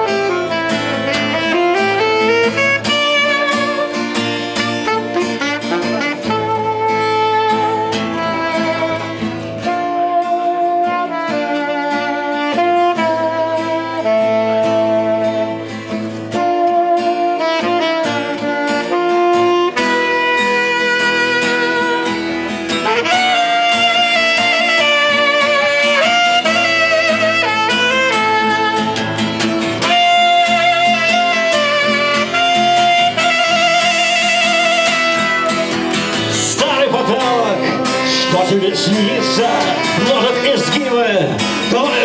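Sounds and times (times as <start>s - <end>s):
live rock band playing: 0.0s - 42.0s
wavering lead melody: 0.0s - 42.0s.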